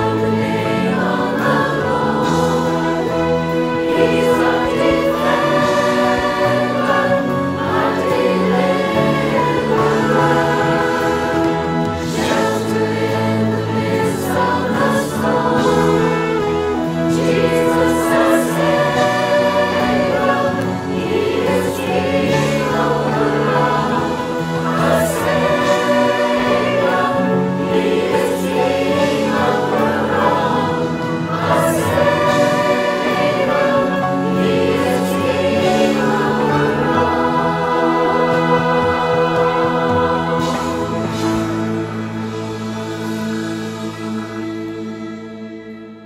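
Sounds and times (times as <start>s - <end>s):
drums: 0.0s - 45.5s
choir singing in harmony: 0.0s - 46.0s
guitar: 0.0s - 46.0s
piano: 0.0s - 46.0s.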